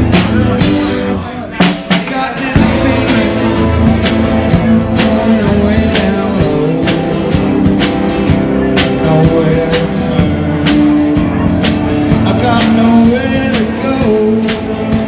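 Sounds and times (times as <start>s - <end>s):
drum kit playing: 0.0s - 15.0s
strummed acoustic guitar: 0.0s - 15.0s.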